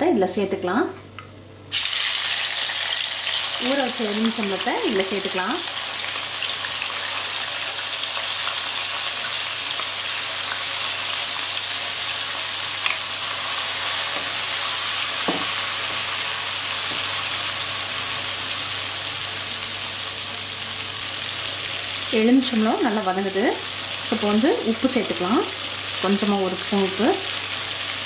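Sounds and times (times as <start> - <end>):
lemon sizzling in hot oil: 1.7 - 28.0.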